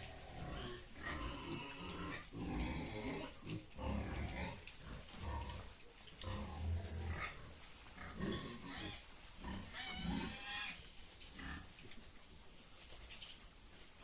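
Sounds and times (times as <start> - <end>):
pigs calling: 0.0 - 12.1.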